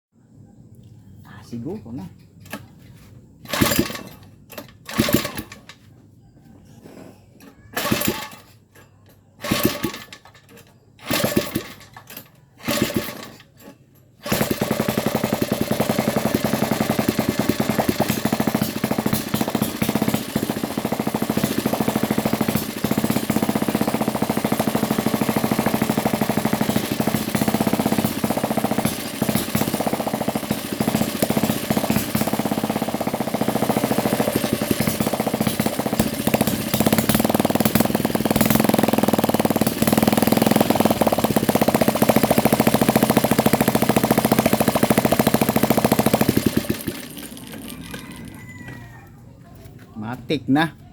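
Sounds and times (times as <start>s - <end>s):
small engine starting and running: 1.9s - 50.8s.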